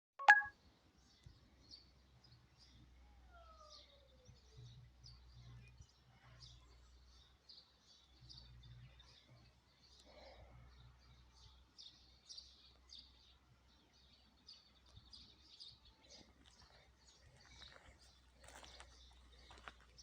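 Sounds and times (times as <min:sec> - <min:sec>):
birds chirping faintly: 0:00.2 - 0:20.0.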